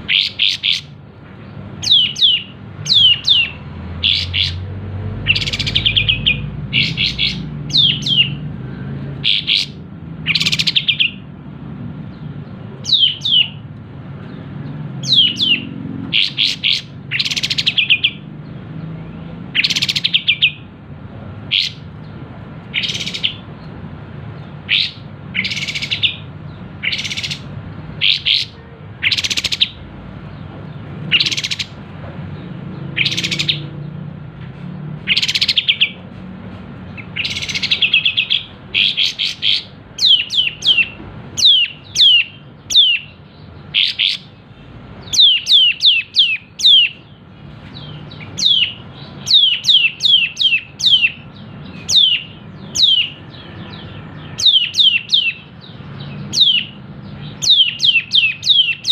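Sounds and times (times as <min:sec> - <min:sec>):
bulbul singing: 0:00.0 - 0:34.1, 0:35.0 - 0:36.1, 0:36.8 - 0:58.9.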